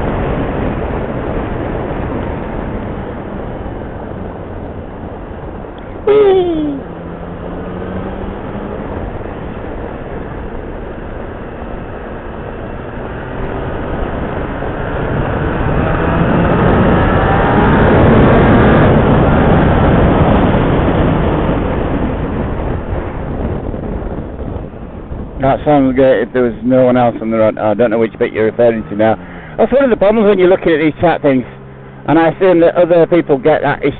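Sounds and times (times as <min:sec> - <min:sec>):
riding wind rush: 0:00.0 - 0:33.9
motorcycle engine accelerating: 0:00.1 - 0:33.8.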